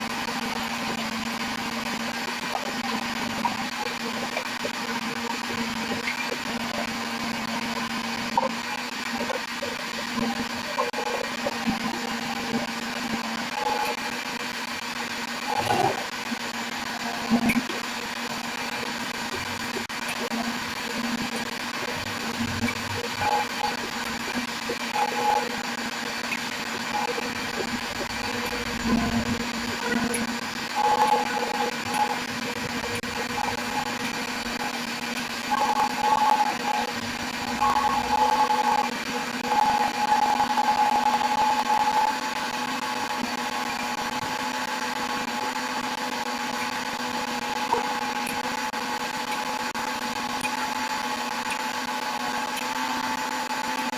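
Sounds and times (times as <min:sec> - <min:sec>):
mechanical whir: 0:00.0 - 0:53.9
motor humming: 0:00.0 - 0:53.9.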